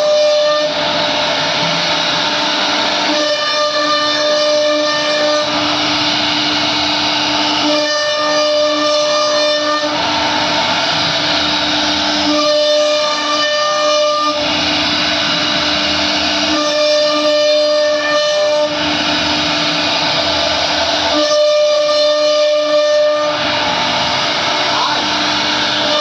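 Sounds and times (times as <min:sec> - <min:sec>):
cnc router spindle whining: 0:00.0 - 0:26.0
higher layered whine: 0:00.0 - 0:26.0.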